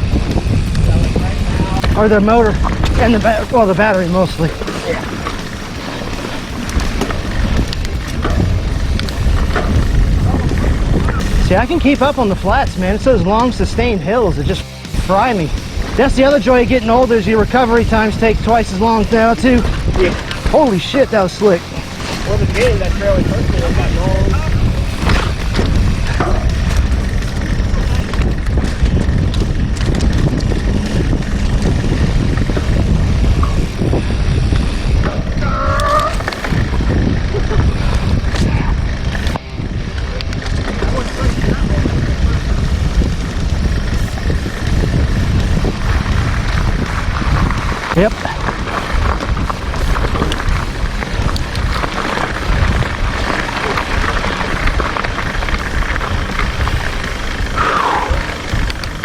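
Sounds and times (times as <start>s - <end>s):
bike clattering on rough ground: 0.0s - 59.0s
wind buffeting microphone: 0.0s - 59.0s.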